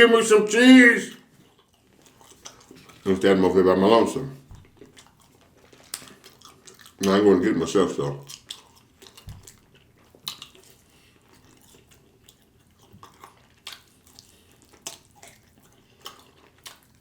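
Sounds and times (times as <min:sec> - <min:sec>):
person chewing food: 0:01.2 - 0:03.2, 0:04.4 - 0:07.2, 0:08.2 - 0:17.0.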